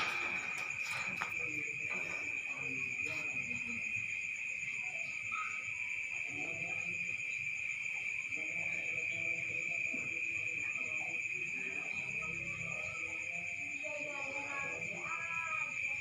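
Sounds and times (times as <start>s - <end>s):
faint voices: 0.0s - 16.0s
night insects chorus: 0.0s - 16.0s.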